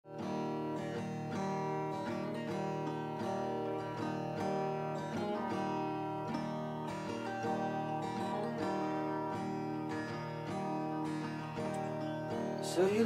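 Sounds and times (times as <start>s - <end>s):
strummed acoustic guitar music: 0.1s - 13.0s.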